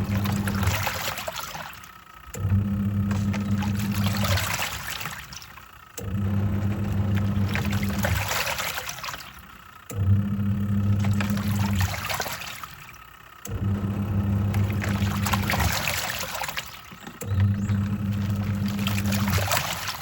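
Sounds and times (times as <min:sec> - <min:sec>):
washing machine motor humming: 0:00.0 - 0:20.0
water sloshing and splashing: 0:00.0 - 0:20.0.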